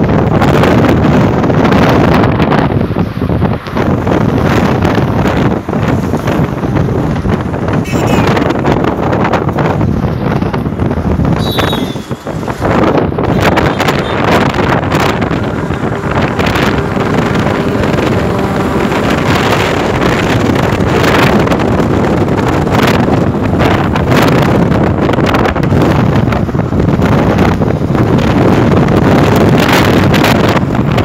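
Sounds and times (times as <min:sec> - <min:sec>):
car wind and road noise: 0:00.0 - 0:31.0
wind buffeting microphone: 0:00.0 - 0:31.0.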